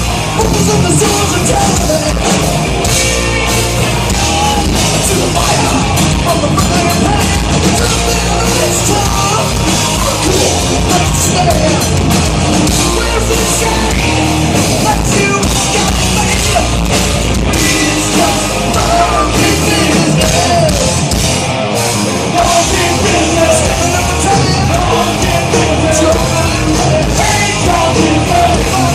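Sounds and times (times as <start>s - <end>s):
rock band playing hard rock: 0.0s - 28.9s.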